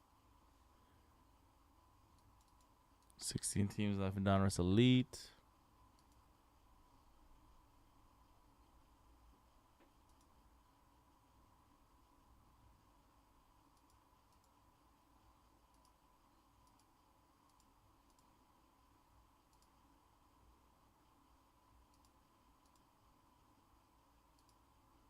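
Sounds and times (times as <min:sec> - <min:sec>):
faint room hum: 0:00.0 - 0:25.0.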